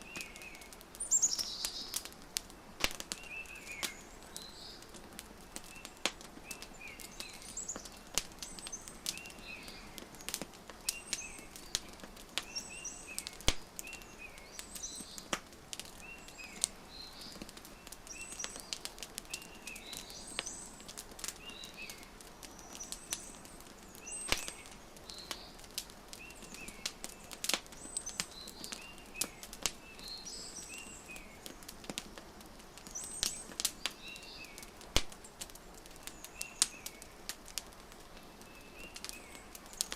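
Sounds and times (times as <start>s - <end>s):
songbirds chirping: 0.0s - 39.9s
wood fire crackling and popping: 0.0s - 39.9s.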